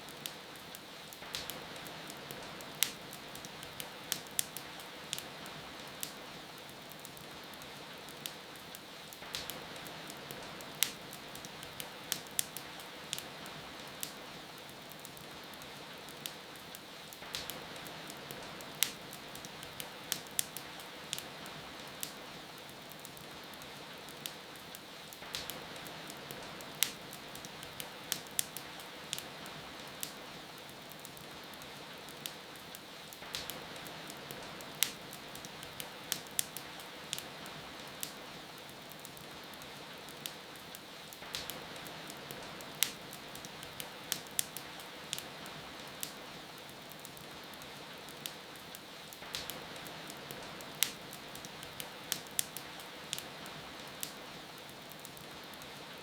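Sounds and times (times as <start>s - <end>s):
rain hiss: 0.0s - 56.0s
wood fire crackling: 0.0s - 56.0s.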